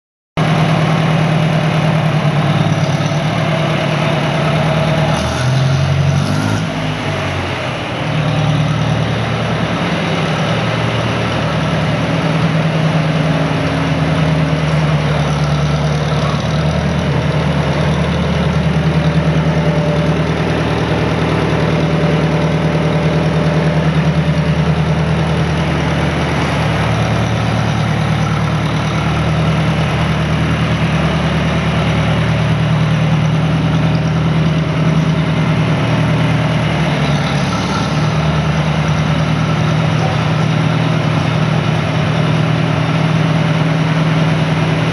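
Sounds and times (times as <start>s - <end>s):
tractor engine idling: 0.4s - 44.9s.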